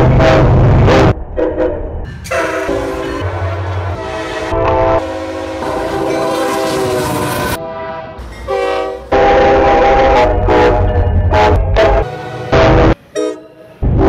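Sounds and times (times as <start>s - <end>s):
locomotive air horns: 0.0s - 13.8s
diesel locomotives rumbling: 0.0s - 14.0s.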